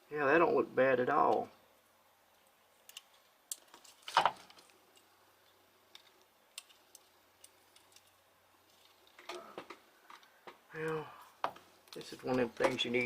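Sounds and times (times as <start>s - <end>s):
light clicks of small parts: 2.3s - 13.0s.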